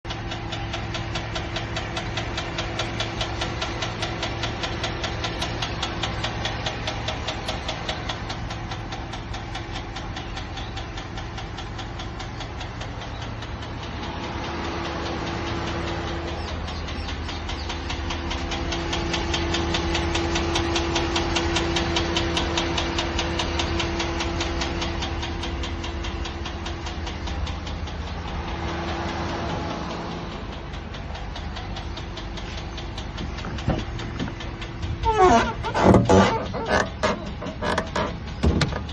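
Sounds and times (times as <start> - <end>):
car engine idling: 0.0 - 38.9
fast ticking from engine: 0.0 - 38.9.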